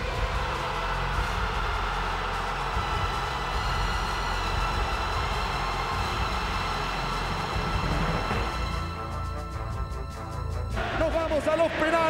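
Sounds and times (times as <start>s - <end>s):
stadium crowd roaring: 0.0s - 8.9s, 10.8s - 12.0s.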